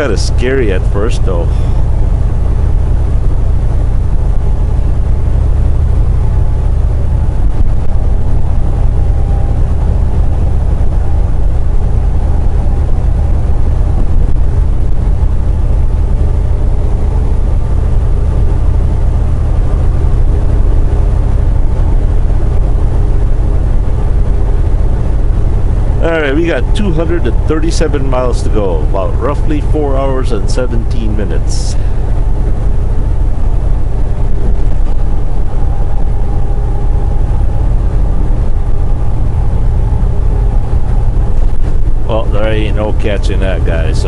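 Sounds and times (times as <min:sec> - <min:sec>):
road noise: 0:00.0 - 0:44.0
truck engine drone: 0:00.0 - 0:44.0.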